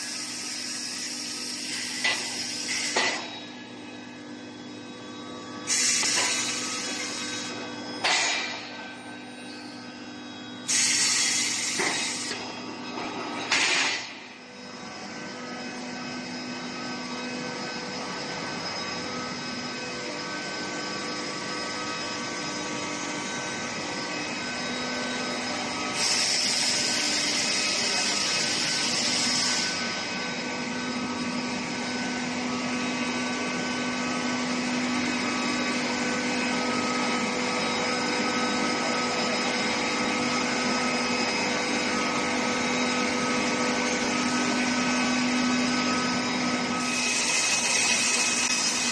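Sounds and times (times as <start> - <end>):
industrial machinery hum: 0.0 - 48.9.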